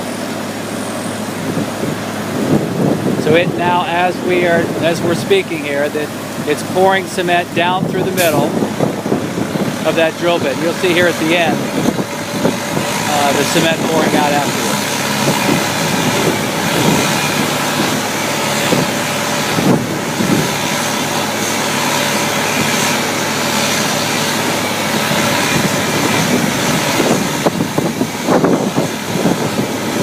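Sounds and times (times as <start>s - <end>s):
concrete pump pulsing: 0.0s - 30.0s
heavy piling equipment engines: 0.0s - 30.0s.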